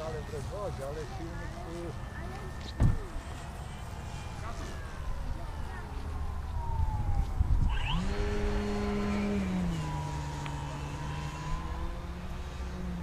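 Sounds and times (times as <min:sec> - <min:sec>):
model plane motor droning: 0:00.0 - 0:06.6, 0:07.3 - 0:13.0.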